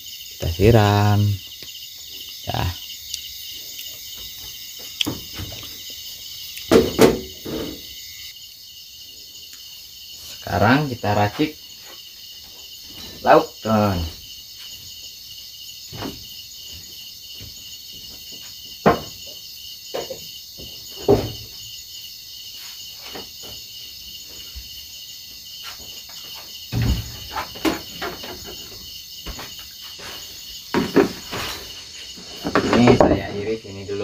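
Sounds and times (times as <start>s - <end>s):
night insects chirring: 0.0s - 34.0s.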